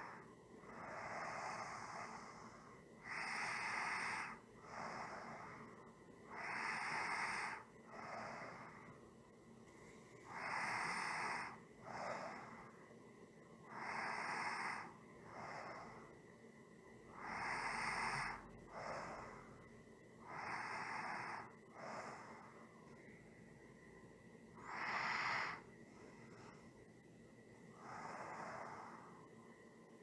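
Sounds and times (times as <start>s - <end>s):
person breathing slowly: 0.0s - 9.1s, 9.7s - 12.9s, 13.6s - 16.2s, 17.1s - 23.4s, 24.5s - 26.9s, 27.6s - 29.9s.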